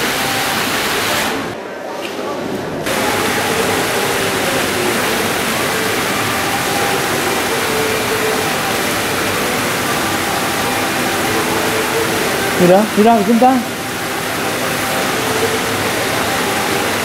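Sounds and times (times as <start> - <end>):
fountain jets splashing: 0.0 - 1.6, 2.9 - 17.0.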